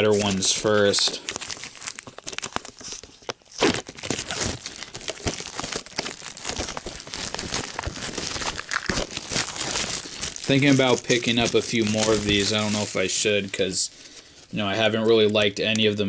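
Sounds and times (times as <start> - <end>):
rustling and crinkling: 0.0 - 14.3.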